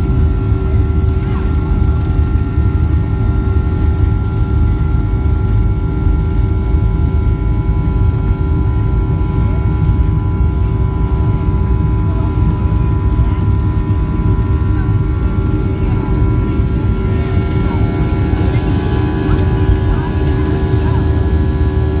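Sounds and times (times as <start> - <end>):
jet engine rumble in cabin: 0.0 - 22.0
jet engine whine: 0.0 - 22.0.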